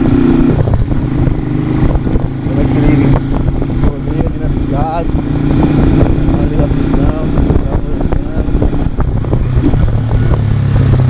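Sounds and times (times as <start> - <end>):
motorcycle engine running: 0.0 - 11.0
rough low noise: 0.0 - 11.0.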